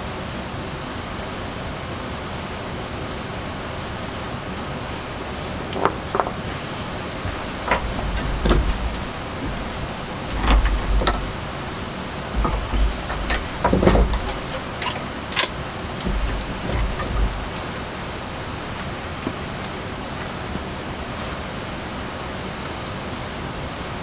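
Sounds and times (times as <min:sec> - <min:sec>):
rain hissing in forest: 0:00.0 - 0:24.0
wind rumble on microphone: 0:04.4 - 0:24.0.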